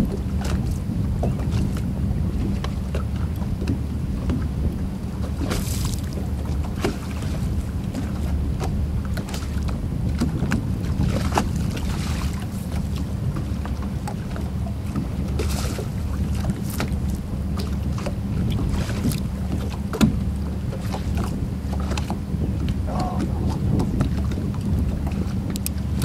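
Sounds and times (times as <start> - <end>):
wind buffeting the microphone: 0.0 - 26.0.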